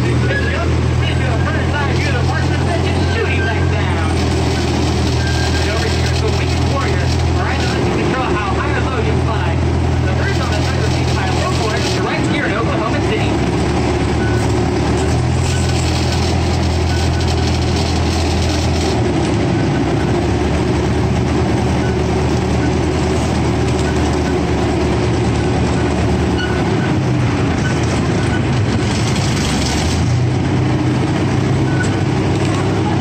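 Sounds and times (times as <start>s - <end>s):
cars rumbling on track: 0.0s - 33.0s
ride train engine running: 0.0s - 33.0s.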